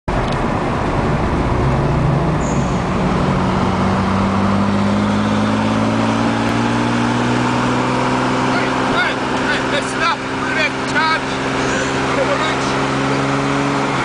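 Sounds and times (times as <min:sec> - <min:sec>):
car engine running inside cabin: 0:00.1 - 0:14.0.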